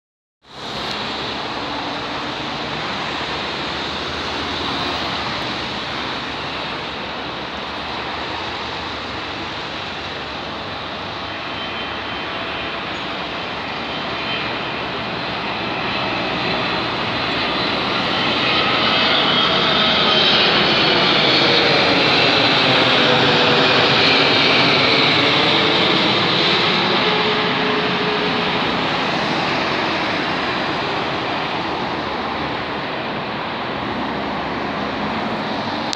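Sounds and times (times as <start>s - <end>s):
jet airliner passing overhead: 0.4s - 35.9s.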